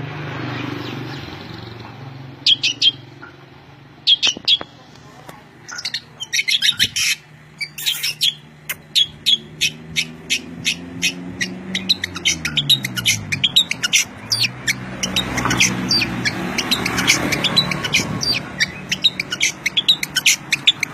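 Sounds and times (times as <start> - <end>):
songbirds chirping: 0.1 - 20.9.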